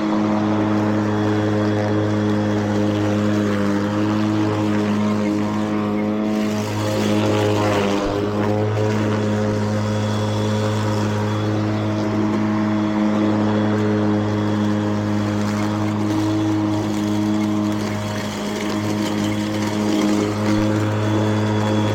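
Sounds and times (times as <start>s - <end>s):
lawn mower motor hum: 0.0s - 21.9s.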